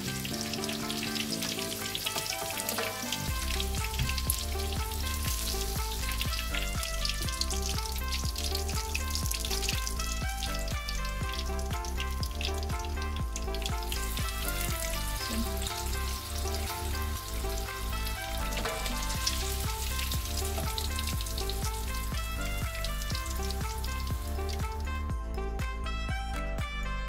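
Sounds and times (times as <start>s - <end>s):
prawns sizzling in hot oil: 0.0s - 25.8s
background music with steady beat: 0.0s - 27.0s.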